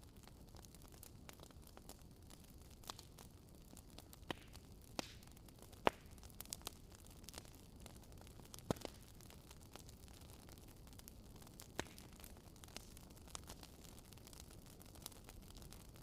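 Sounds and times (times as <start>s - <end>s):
low steady hiss: 0.0s - 16.0s
wood fire crackling: 0.0s - 16.0s.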